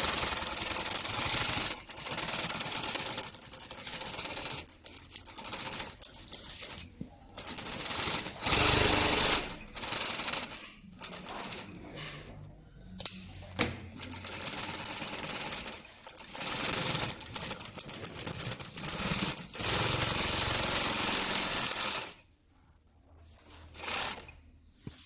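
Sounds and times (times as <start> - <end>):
sewing machine stitching: 0.0 - 12.3, 14.0 - 22.3, 23.4 - 24.6.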